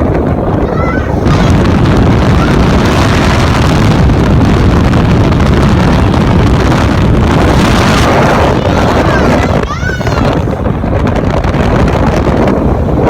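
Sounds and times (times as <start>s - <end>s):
wind blasting over microphone: 0.0s - 13.0s.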